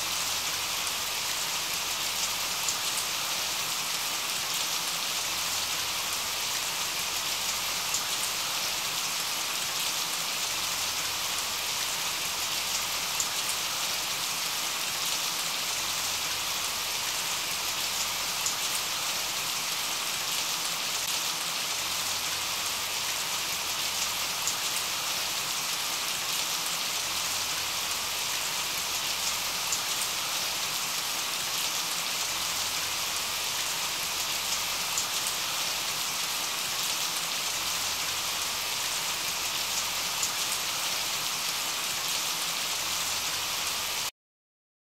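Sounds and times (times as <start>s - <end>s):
steady rain hiss: 0.0s - 44.1s.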